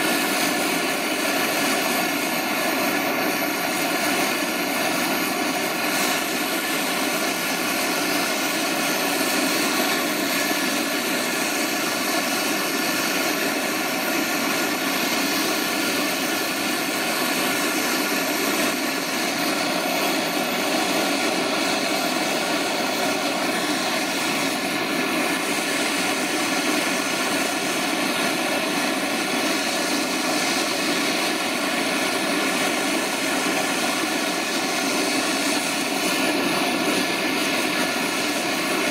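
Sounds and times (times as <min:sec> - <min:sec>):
blowtorch flame roaring: 0:00.0 - 0:38.9.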